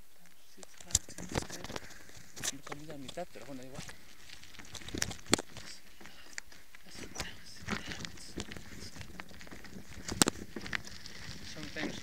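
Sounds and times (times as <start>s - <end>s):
tyres crunching on loose stones: 0.0s - 12.0s
bike rattling and knocking: 0.8s - 12.0s.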